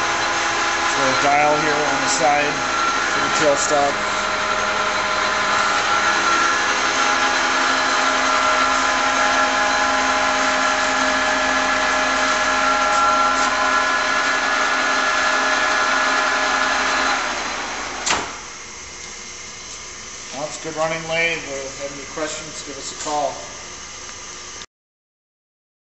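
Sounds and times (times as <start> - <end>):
lathe running with mechanical whine: 0.0 - 24.6.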